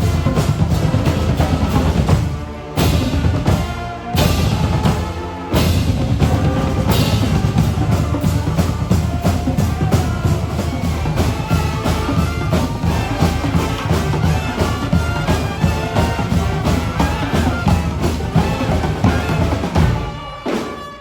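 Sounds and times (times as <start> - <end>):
bass drum and snare beat: 0.0 - 20.3
street band music: 0.0 - 21.0.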